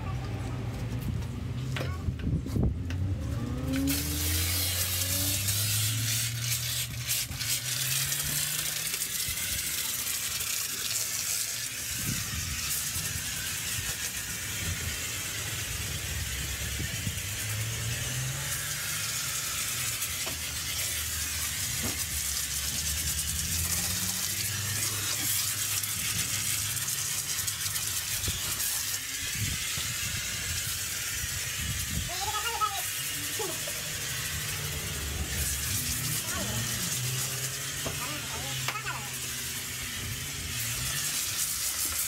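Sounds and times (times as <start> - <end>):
pressure washer spray hiss: 3.6 - 42.0.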